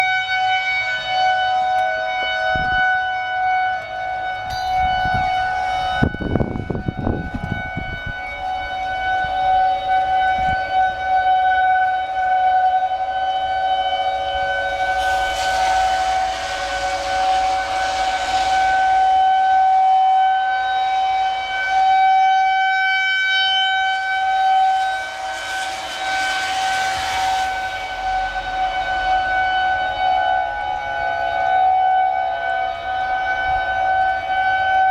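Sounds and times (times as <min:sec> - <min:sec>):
warning siren steady wail: 0:00.0 - 0:34.9
low rumble: 0:04.1 - 0:21.8, 0:23.8 - 0:34.5.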